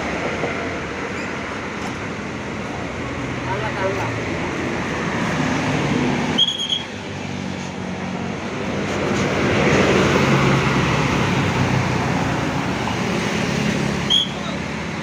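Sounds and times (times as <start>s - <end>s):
diesel bus engine: 0.0s - 15.0s
road traffic: 0.0s - 15.0s.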